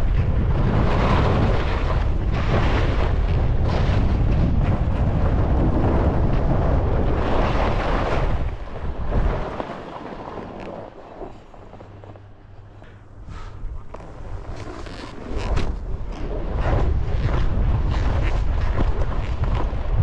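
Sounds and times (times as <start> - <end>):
skis scraping over snow: 0.0 - 20.0
wind buffeting microphone: 0.0 - 20.0.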